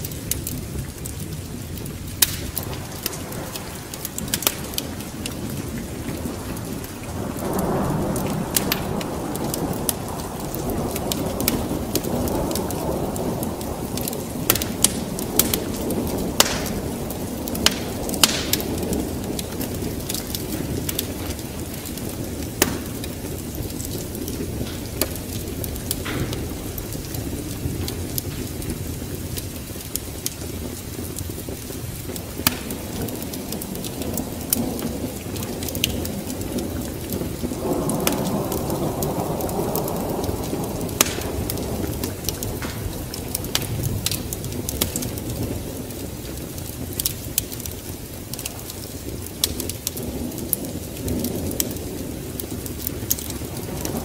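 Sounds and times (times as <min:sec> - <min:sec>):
rain: 0:00.0 - 0:54.0
thunder rumbling: 0:00.0 - 0:54.0
wood fire crackling and popping: 0:00.0 - 0:54.0.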